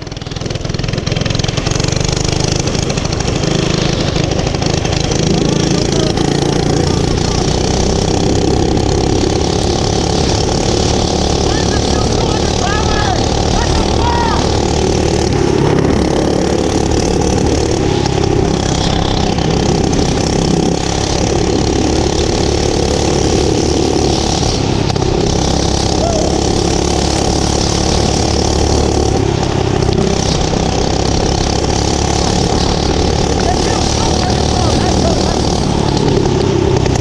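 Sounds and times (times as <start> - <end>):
small gas engine running: 0.0 - 37.0.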